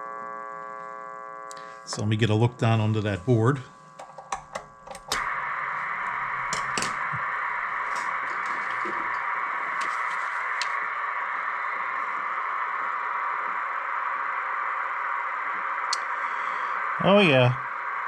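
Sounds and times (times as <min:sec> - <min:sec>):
receiver noise hiss: 0:00.0 - 0:18.0.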